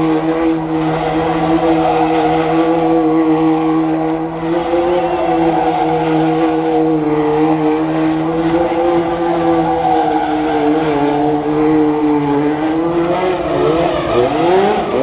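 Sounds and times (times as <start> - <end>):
car engines at high revs: 0.0 - 15.0
tyres spinning on pavement: 0.0 - 15.0.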